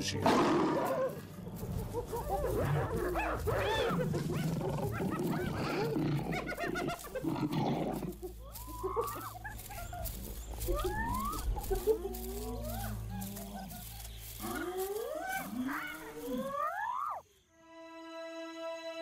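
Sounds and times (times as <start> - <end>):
hyenas yelping and cackling: 0.4 - 17.2.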